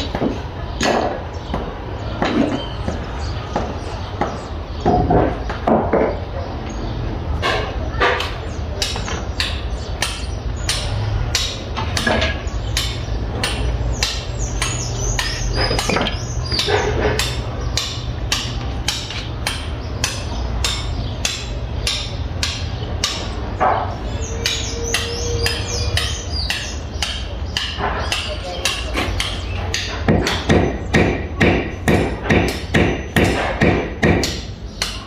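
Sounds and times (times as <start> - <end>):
hammer strikes: 0.0 - 3.0, 7.4 - 35.0.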